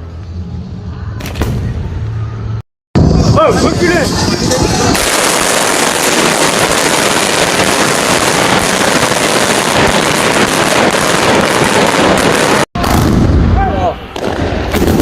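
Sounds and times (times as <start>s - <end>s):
firecrackers crackling: 3.0s - 15.0s.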